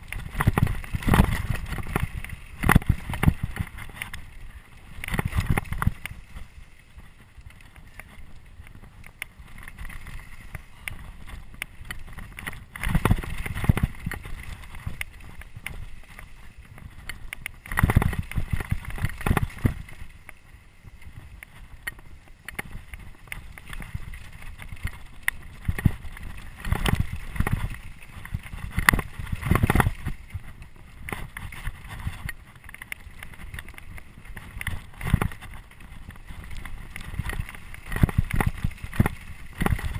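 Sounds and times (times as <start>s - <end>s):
bike rattling clatter: 0.0s - 39.9s
wind buffeting microphone: 0.0s - 39.9s.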